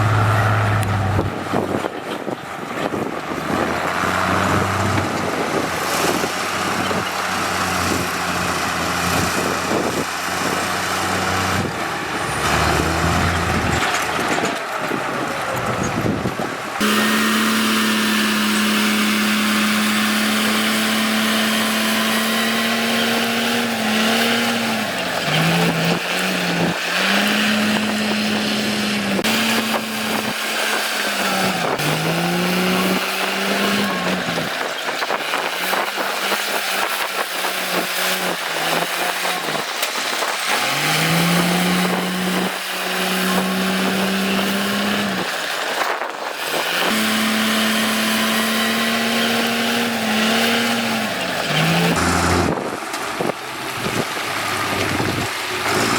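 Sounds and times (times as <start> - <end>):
diesel engine running hard: 0.0 - 55.9.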